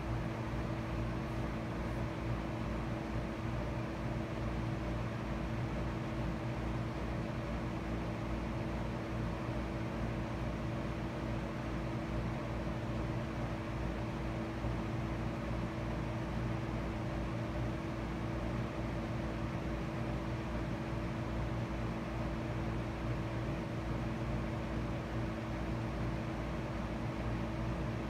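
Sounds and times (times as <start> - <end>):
mechanical hum and hiss: 0.0 - 28.0.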